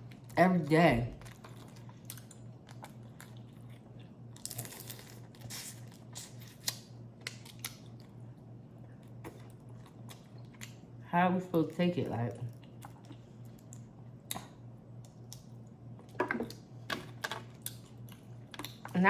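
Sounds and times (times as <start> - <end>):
low steady hum: 0.0 - 19.0
chewing with shell cracks: 1.2 - 11.0, 12.5 - 19.0.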